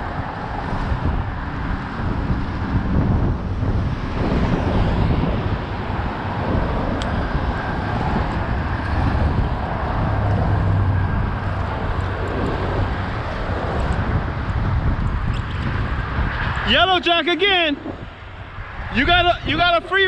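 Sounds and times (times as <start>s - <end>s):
road traffic rumble: 0.0s - 20.0s
wind noise on microphone: 0.0s - 20.0s.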